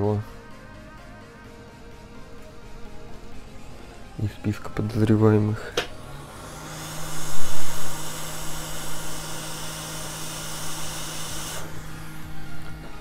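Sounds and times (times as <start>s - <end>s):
hot air blower hissing: 2.0s - 13.0s.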